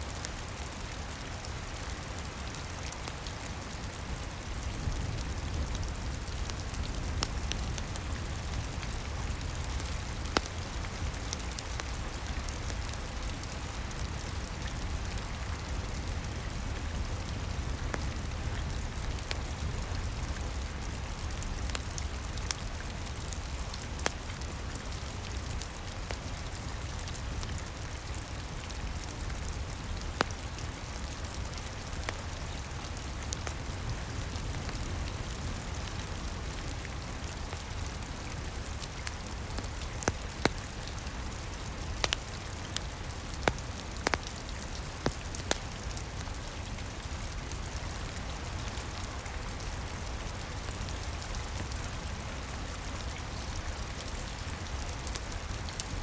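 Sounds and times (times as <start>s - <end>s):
rain pattering: 0.0s - 56.0s
wood fire crackling: 0.1s - 56.0s.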